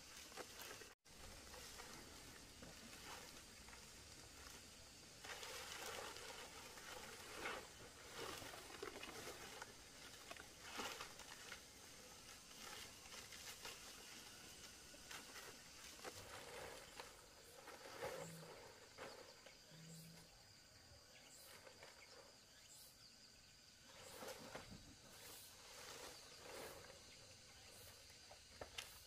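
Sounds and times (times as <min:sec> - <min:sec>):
palm fronds rustling: 0:00.0 - 0:19.5, 0:23.8 - 0:29.0.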